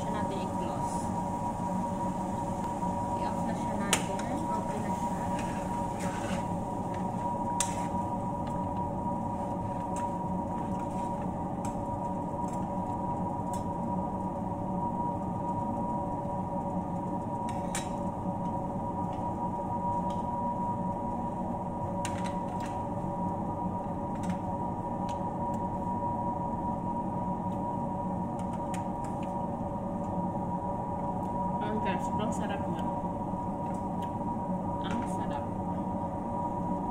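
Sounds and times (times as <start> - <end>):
steady mechanical hum: 0.0 - 36.9.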